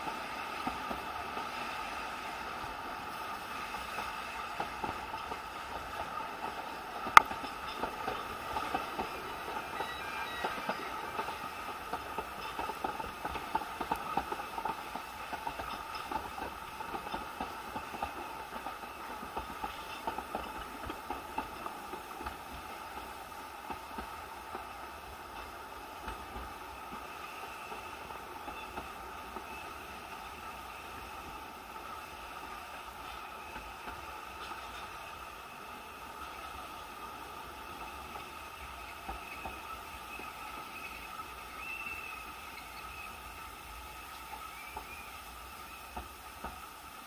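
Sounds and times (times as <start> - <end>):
train wheels rattling: 0.0 - 47.0.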